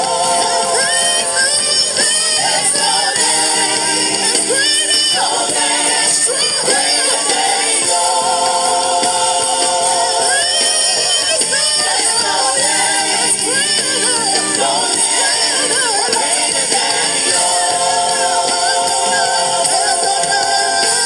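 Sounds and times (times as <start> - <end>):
worship singing with instruments: 0.0 - 21.0.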